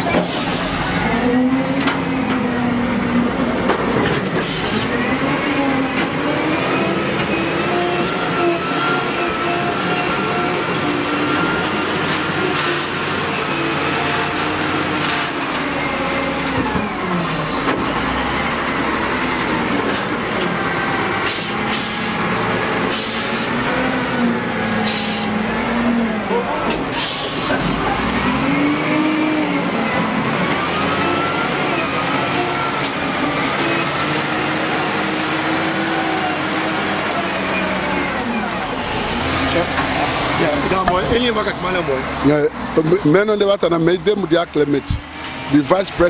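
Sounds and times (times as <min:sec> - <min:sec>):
wheel loader diesel engine revving: 0:00.0 - 0:46.0.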